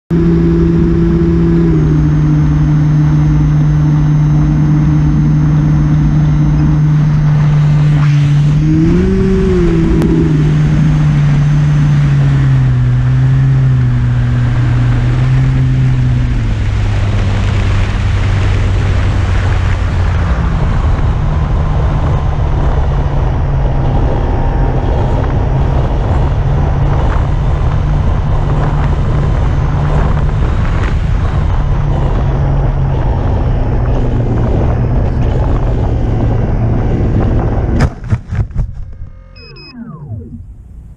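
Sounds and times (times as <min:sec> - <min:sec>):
aircraft motor and propeller hum: 0:00.1 - 0:40.9
wind rushing over microphone: 0:00.2 - 0:39.1.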